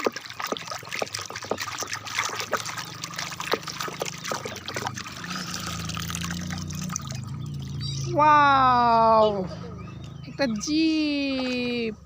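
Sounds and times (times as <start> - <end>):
low steady hum: 0.0 - 12.0
water trickling and splashing: 0.0 - 12.0.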